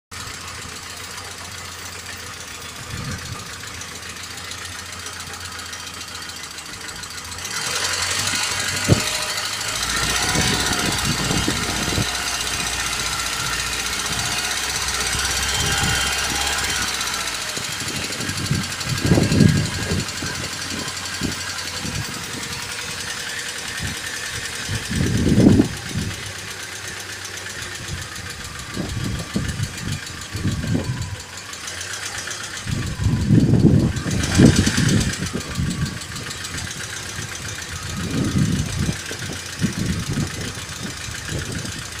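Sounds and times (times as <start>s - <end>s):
car engine running: 0.1s - 42.0s
engine ticking knock: 0.1s - 42.0s.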